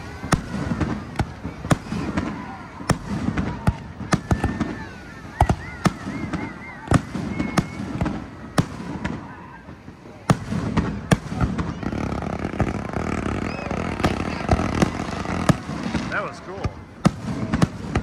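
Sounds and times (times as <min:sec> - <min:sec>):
fireworks bursting: 0:00.0 - 0:18.0
rumble of fireworks launches: 0:00.0 - 0:18.0.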